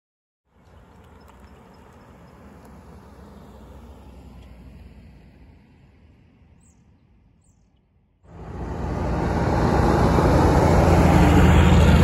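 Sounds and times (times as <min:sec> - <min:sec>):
truck diesel engine and tyre noise: 0:00.5 - 0:12.0.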